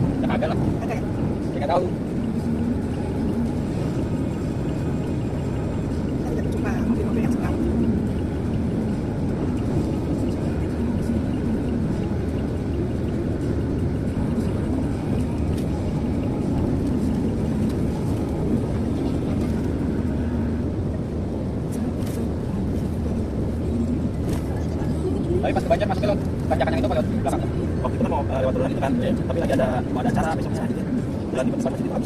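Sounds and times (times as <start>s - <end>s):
car cabin road and engine noise: 0.0s - 32.0s.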